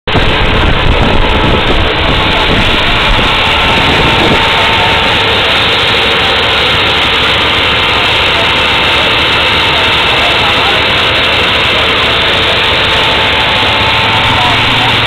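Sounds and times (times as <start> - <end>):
atv engine running: 0.1 - 15.0.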